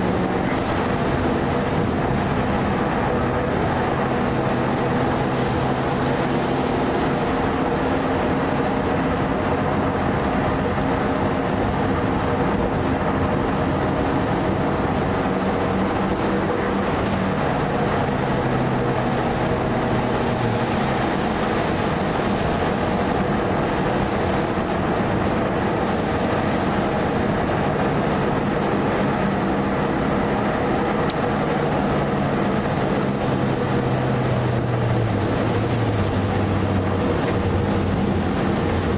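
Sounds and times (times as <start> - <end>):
car engine revving: 0.0 - 38.9
wind noise: 0.0 - 38.9.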